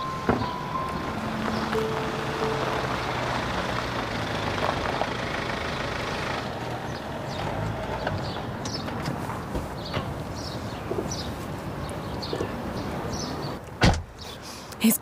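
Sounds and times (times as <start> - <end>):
car engine and tyre noise: 0.0 - 14.5.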